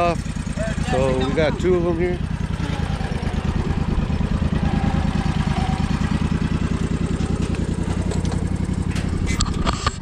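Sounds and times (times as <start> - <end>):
lawn mower engine idling: 0.0 - 10.0.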